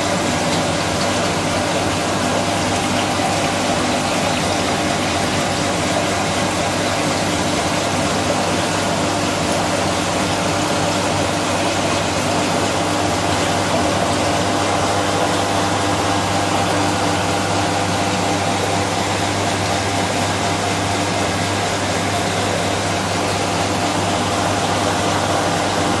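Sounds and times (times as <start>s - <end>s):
aquarium pump hum: 0.0s - 26.0s
water rushing: 0.0s - 26.0s.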